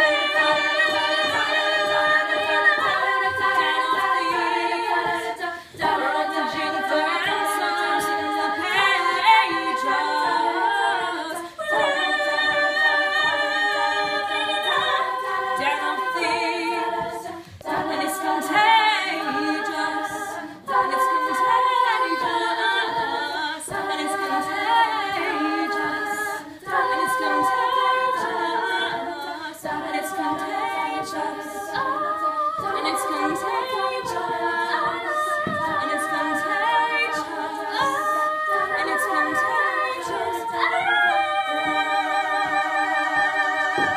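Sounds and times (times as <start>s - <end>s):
female group singing in harmony: 0.0s - 43.9s.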